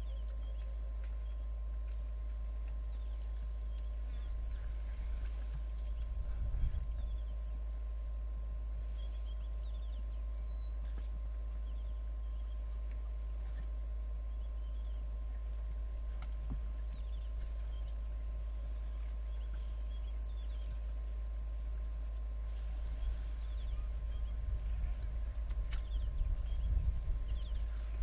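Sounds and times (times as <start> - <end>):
constant low hum: 0.0 - 28.0.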